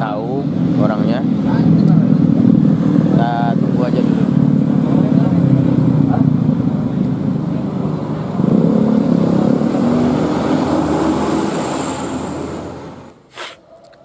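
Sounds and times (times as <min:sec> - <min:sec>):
vehicle engine running: 0:00.0 - 0:13.2
road noise: 0:00.0 - 0:14.0.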